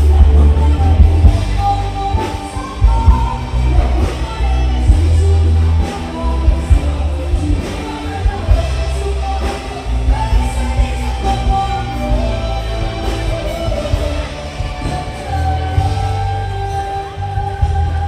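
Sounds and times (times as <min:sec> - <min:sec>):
loud rock music with singer: 0:00.0 - 0:18.0.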